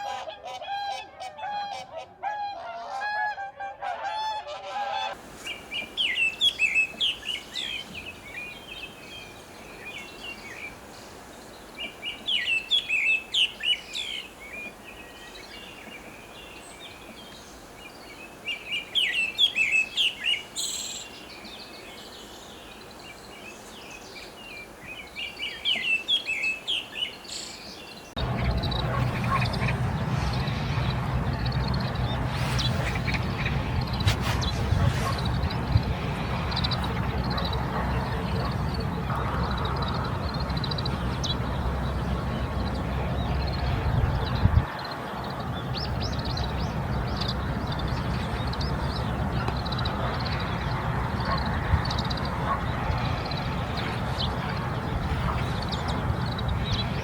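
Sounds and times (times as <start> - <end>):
background noise with low hum: 5.2 - 57.0.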